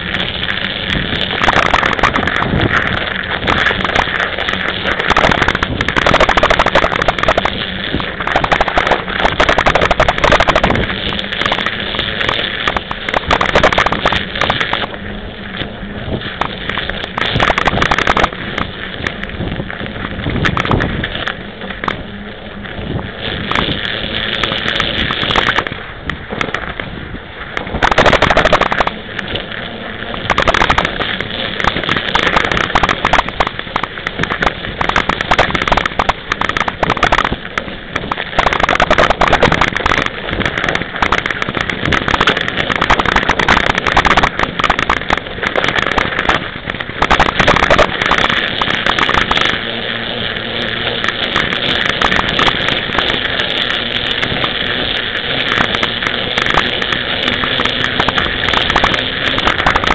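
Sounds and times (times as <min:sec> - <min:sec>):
bike tyres crunching through snow: 0:00.0 - 0:59.9.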